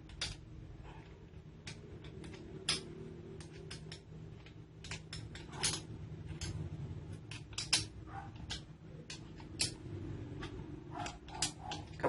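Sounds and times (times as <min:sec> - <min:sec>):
steady low hum: 0:00.0 - 0:12.0
screws being tightened clicks: 0:01.6 - 0:06.6, 0:07.2 - 0:12.0.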